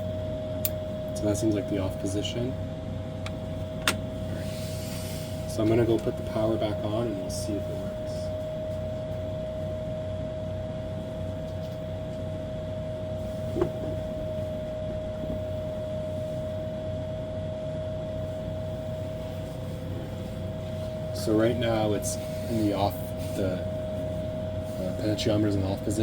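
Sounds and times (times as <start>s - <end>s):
mechanical hum with steady tone: 0.0s - 26.0s.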